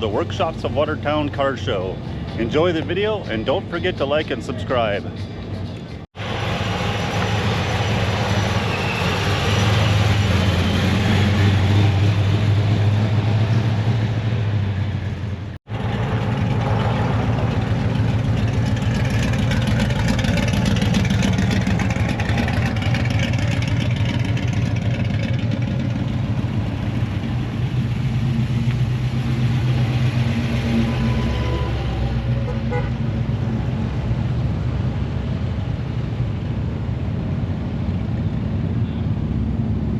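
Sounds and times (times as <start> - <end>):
car engines running: 0.0 - 39.9
outdoor noise: 0.0 - 39.9.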